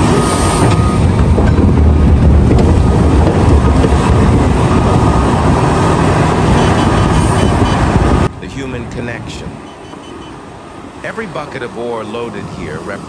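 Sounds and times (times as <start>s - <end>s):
excavator engine rumbling: 0.0s - 13.0s.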